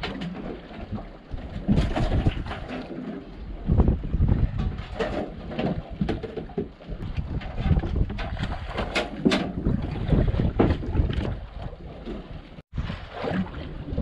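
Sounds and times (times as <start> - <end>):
boat running noise: 0.0 - 14.0
wind buffeting microphone: 0.8 - 2.7, 3.3 - 14.0.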